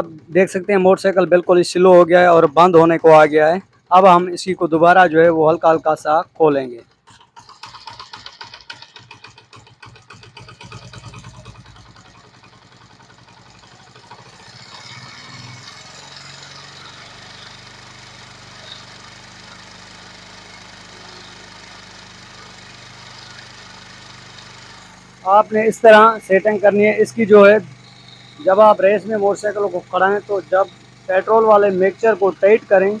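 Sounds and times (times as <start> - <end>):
motorcycle engine idling unevenly: 0.0 - 33.0.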